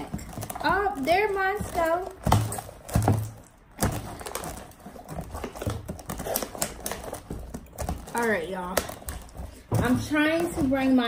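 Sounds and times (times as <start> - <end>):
slime squishing and thudding: 0.0 - 11.0.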